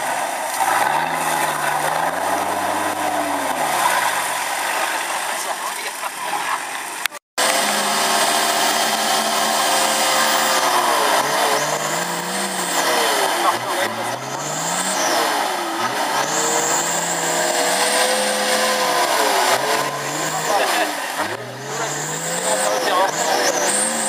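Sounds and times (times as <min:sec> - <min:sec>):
engine revving under load: 0:00.0 - 0:05.4, 0:07.4 - 0:24.0.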